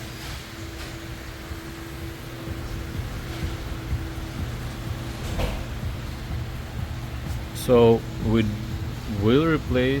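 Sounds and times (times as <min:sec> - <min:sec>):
low steady tone: 0:01.3 - 0:09.9
low rumble: 0:01.4 - 0:09.8.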